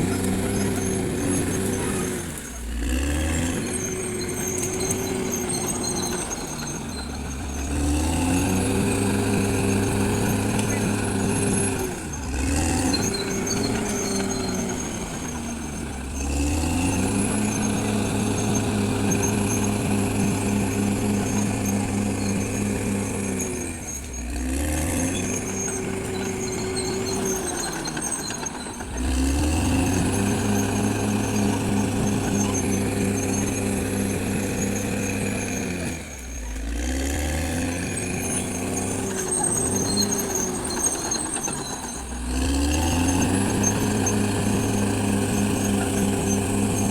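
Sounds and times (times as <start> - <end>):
bulldozer diesel engine under load: 0.0 - 46.9.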